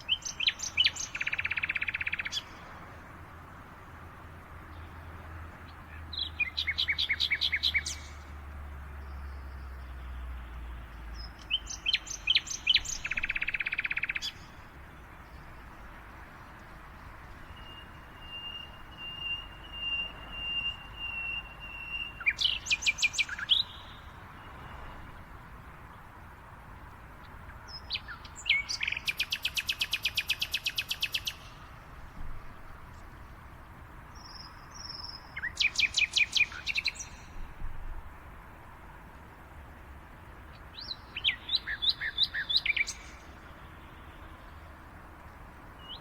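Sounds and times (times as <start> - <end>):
outdoor background hiss: 0.0 - 46.0
songbirds chirping and trilling: 0.0 - 46.0.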